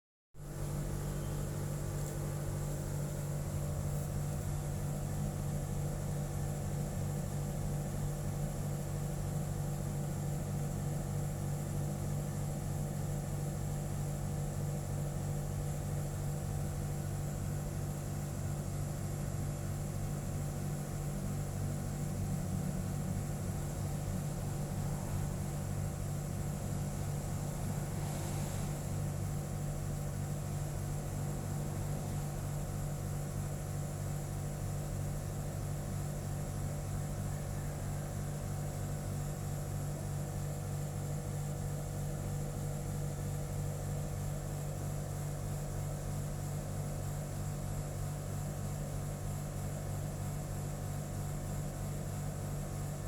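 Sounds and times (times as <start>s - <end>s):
mechanical hum: 0.4s - 53.0s.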